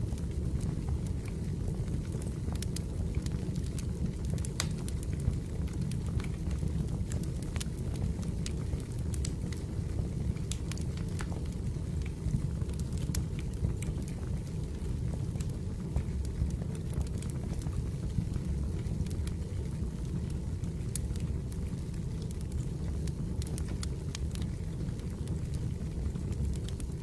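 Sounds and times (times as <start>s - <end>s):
fire crackles and pops: 0.0s - 27.0s
firewood burning: 0.0s - 27.0s.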